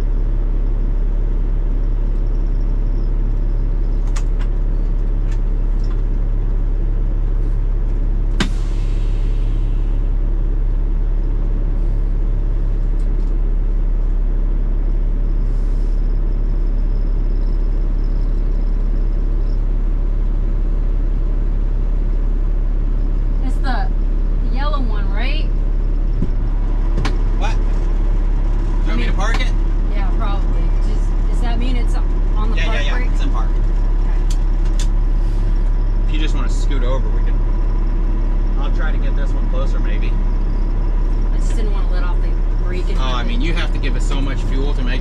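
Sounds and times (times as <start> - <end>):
truck diesel engine idling: 0.0 - 45.0.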